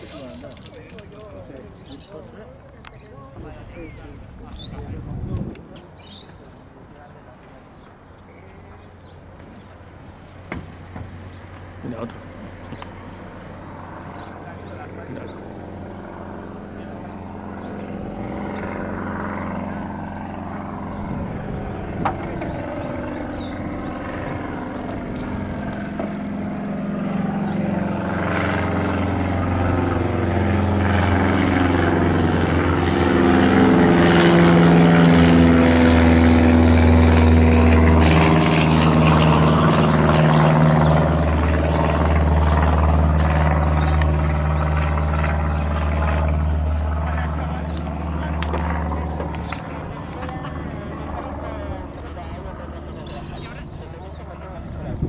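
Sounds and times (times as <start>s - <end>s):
light aircraft passing overhead: 0.0s - 55.0s.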